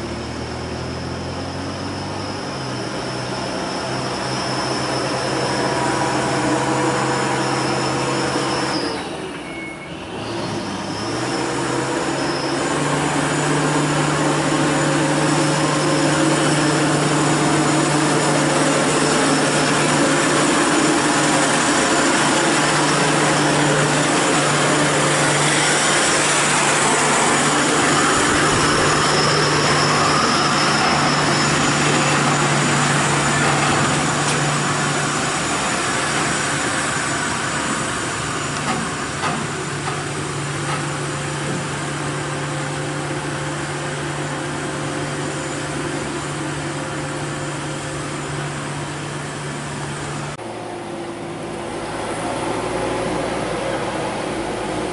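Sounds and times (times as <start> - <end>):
diesel truck engine pulling uphill: 0.0 - 54.9.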